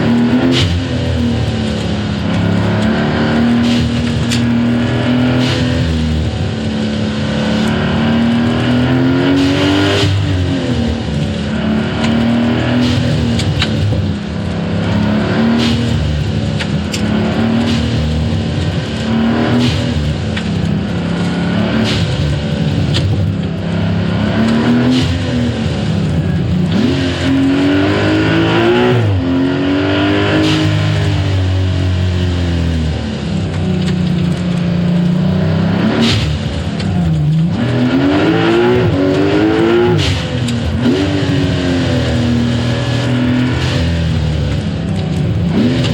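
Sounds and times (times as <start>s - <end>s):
sports car engine revving: 0.0s - 45.9s.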